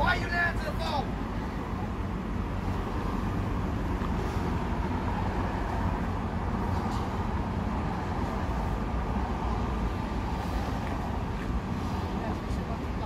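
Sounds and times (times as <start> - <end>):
traffic rumble on city street: 0.0 - 13.0.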